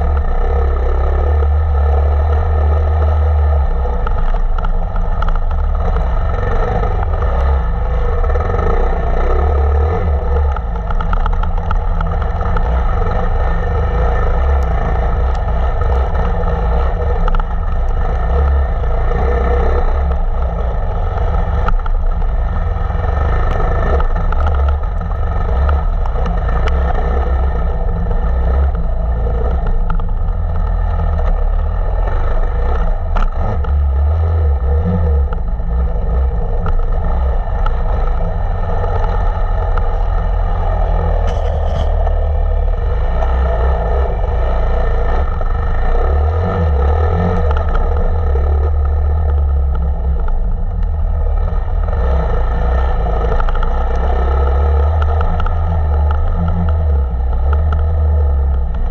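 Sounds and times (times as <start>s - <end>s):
motorcycle engine running: 0.0s - 58.9s
wind rumble on microphone: 0.0s - 58.9s.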